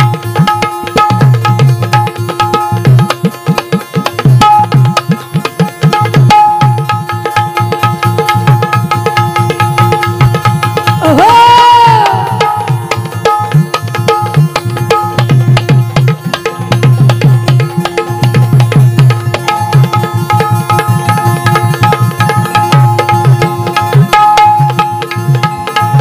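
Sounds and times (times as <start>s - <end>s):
drum in fast rhythm: 0.0s - 26.0s.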